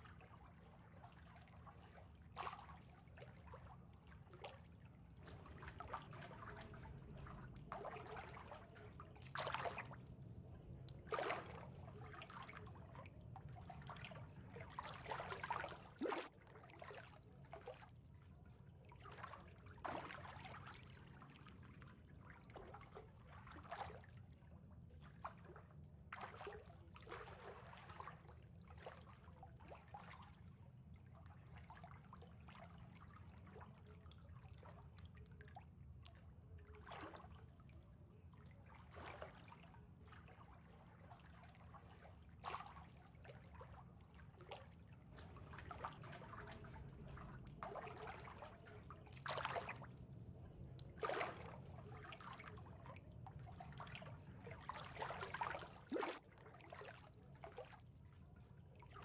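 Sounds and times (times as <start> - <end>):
small water splashes: 0.0 - 59.0
water trickling and lapping: 0.0 - 59.0.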